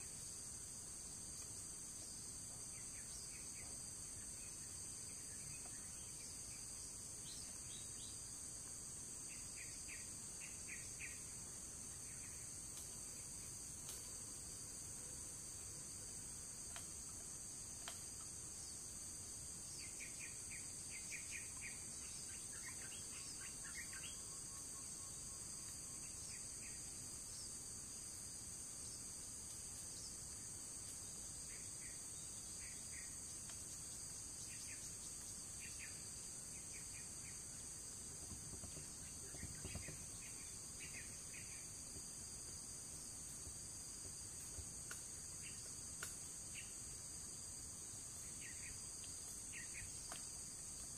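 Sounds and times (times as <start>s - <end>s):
insect chorus drone: 0.0s - 50.9s
short insect chirps: 2.6s - 14.6s, 16.5s - 27.7s, 28.8s - 50.9s.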